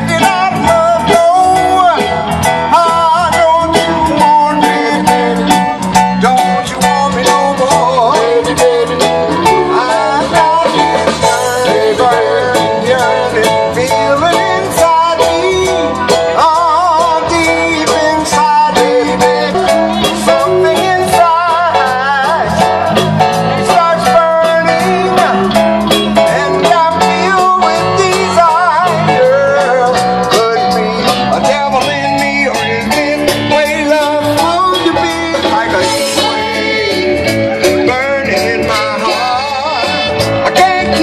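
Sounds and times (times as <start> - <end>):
guitar: 0.0 - 41.0
person singing: 0.0 - 41.0
steady beat: 0.0 - 41.0.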